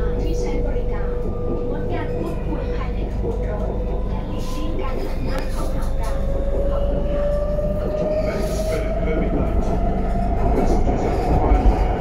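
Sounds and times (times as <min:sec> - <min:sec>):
train wheel and track rumble: 0:00.0 - 0:12.0.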